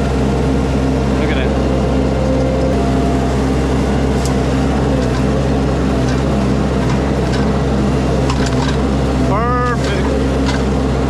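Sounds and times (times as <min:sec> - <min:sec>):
engine running under throttle: 0:00.0 - 0:11.0.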